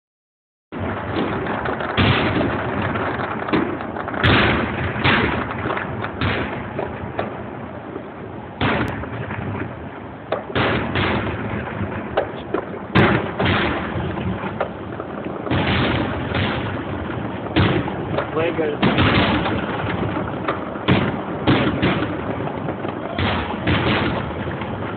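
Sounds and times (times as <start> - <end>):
fireworks bangs: 0.7 - 24.9
rumble of firework bursts: 0.7 - 24.9.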